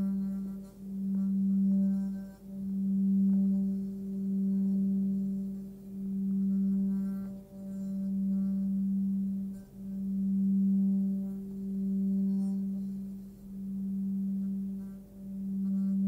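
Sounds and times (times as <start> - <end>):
singing bowl humming: 0.0 - 16.0.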